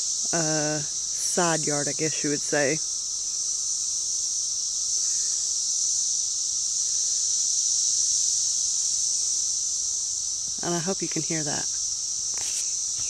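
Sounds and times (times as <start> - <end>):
cicadas droning: 0.0 - 13.0.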